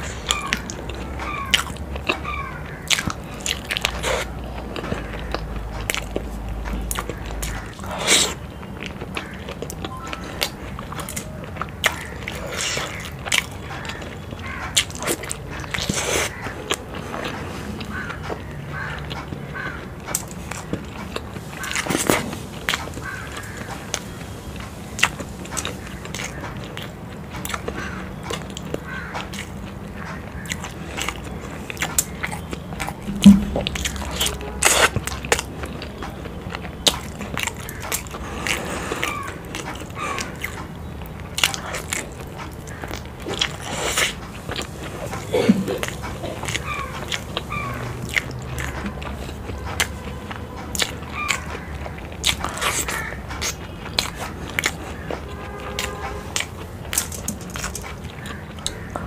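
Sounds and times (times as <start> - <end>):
chewing with wet mouth smacks: 0.0 - 59.0.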